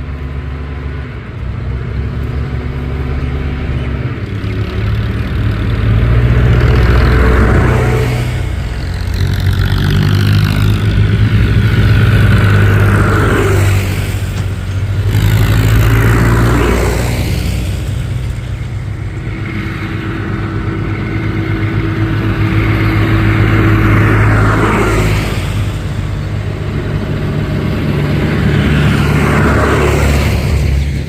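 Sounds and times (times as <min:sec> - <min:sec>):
diesel engine revving: 0:00.0 - 0:31.0
high whine: 0:05.5 - 0:31.0.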